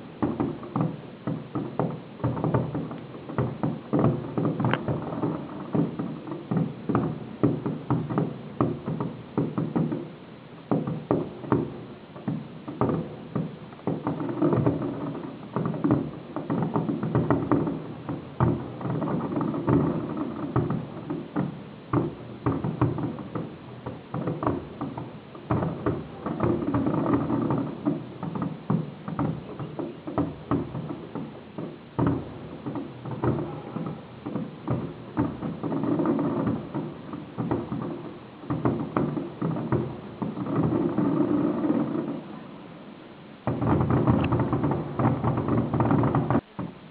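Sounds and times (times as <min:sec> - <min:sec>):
fireworks exploding: 0:00.0 - 0:46.9.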